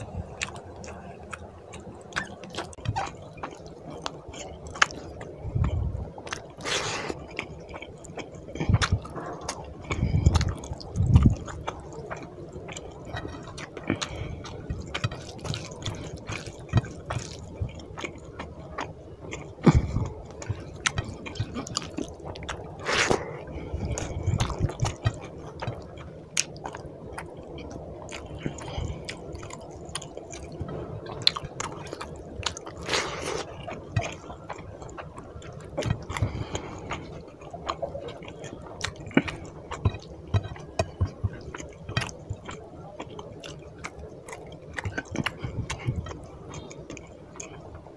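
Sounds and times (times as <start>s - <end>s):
chewing and lip smacks: 0.0s - 47.9s.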